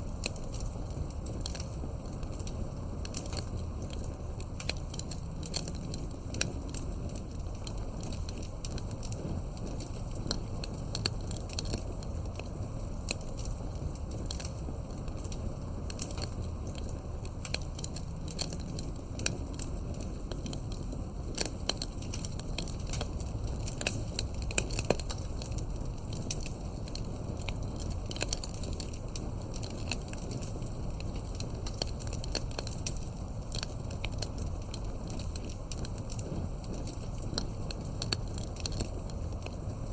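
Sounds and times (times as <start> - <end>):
campfire crackling: 0.0 - 39.9
loud fire pops: 0.0 - 39.9
low fire rumble: 0.0 - 39.9.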